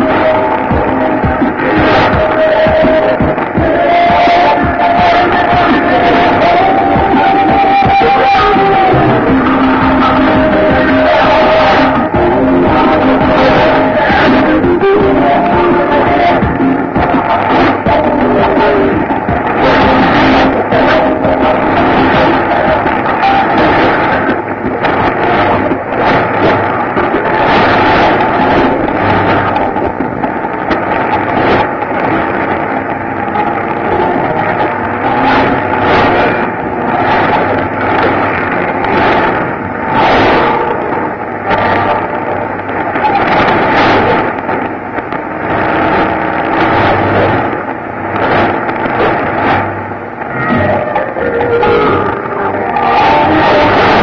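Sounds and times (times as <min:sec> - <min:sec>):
radio static: 0:00.0 - 0:54.0
steady tone: 0:00.0 - 0:54.0
voice talking on radio: 0:00.0 - 0:54.0.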